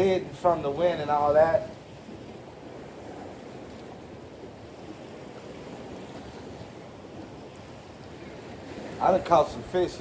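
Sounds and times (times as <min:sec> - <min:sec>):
surf: 0:00.0 - 0:10.0
wind: 0:00.0 - 0:10.0.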